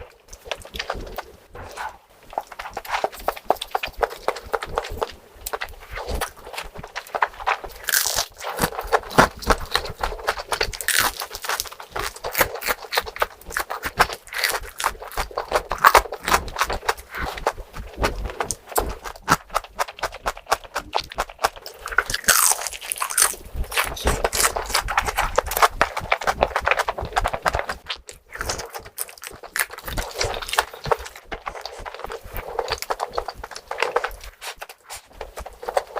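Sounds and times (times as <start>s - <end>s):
person chewing crunchy food: 0.0s - 35.9s.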